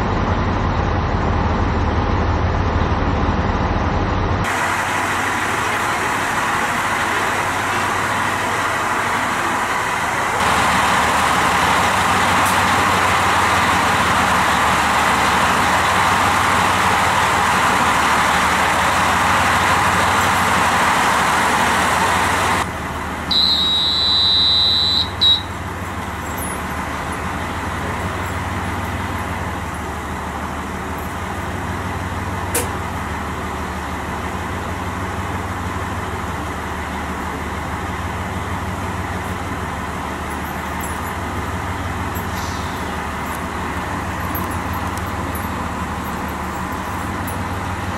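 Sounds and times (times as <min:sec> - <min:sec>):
diesel railcar engine idling: 0:00.0 - 0:47.9.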